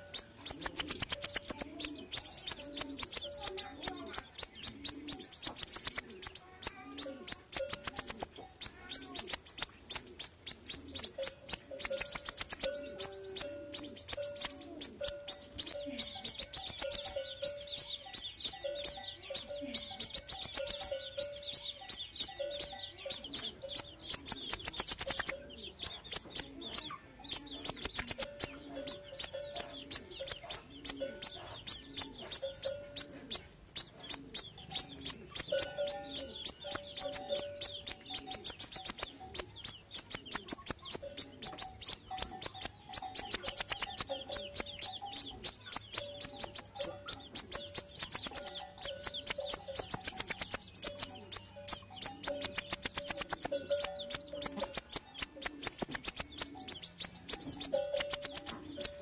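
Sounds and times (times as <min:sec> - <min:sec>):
high-pitched bird chips: 0:00.0 - 0:59.0.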